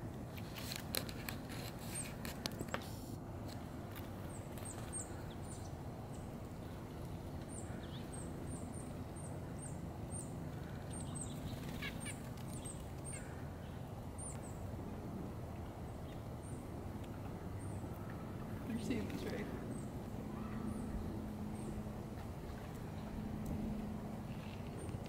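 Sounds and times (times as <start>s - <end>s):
low background rumble: 2.1s - 25.0s.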